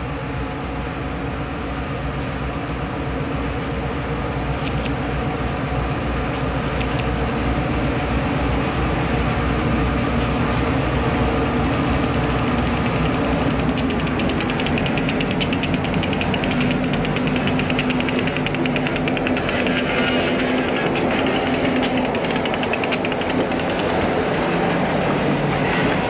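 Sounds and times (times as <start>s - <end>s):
freight train rumbling past: 0.0s - 26.0s
train rattling clatter: 0.0s - 26.0s.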